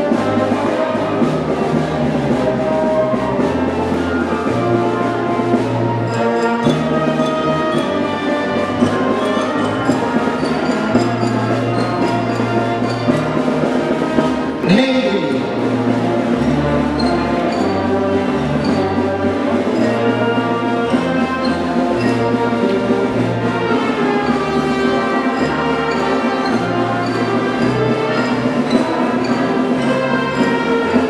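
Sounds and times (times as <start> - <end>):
concert band playing: 0.0 - 31.0.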